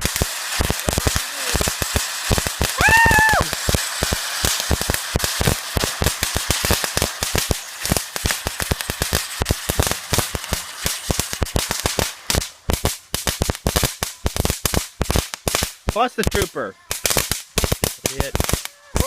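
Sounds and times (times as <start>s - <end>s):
firecrackers popping: 0.0s - 19.0s.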